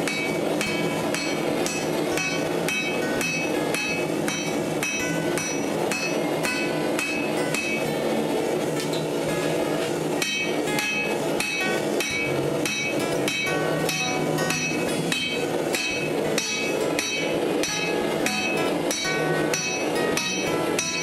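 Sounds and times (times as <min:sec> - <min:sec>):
hammer striking metal on anvil: 0:00.0 - 0:08.1, 0:09.8 - 0:21.0
steady rushing noise: 0:00.0 - 0:21.0.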